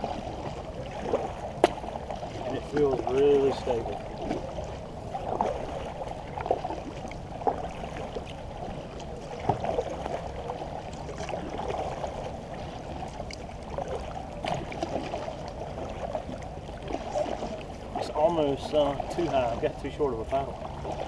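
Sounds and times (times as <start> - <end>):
water dripping off paddle: 0.0 - 19.9
water lapping against hull: 0.0 - 21.0.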